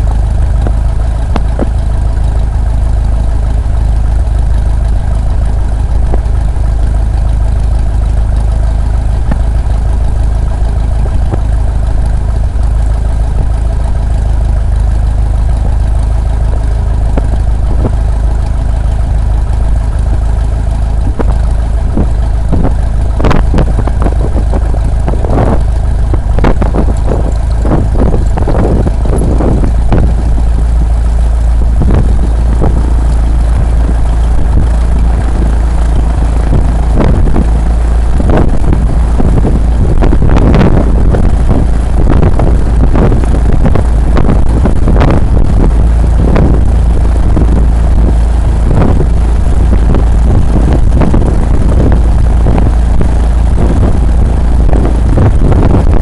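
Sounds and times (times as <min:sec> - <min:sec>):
heavy low rumble: 0:00.0 - 0:56.0
light airplane engine and propeller: 0:00.0 - 0:56.0
wind buffeting microphone: 0:00.0 - 0:56.0.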